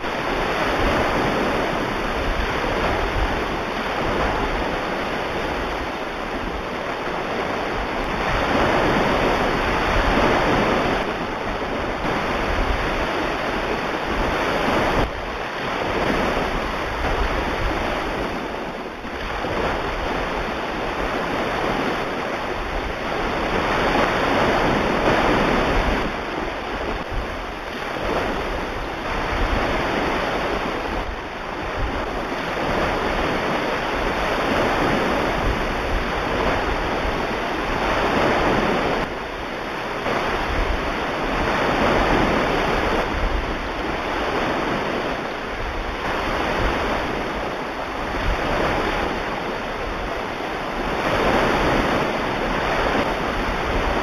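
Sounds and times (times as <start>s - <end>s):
ocean waves rolling in: 0.0s - 54.0s.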